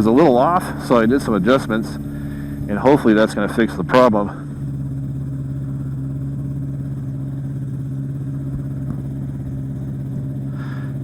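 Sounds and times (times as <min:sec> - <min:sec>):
propeller engine idling: 0:00.0 - 0:11.0.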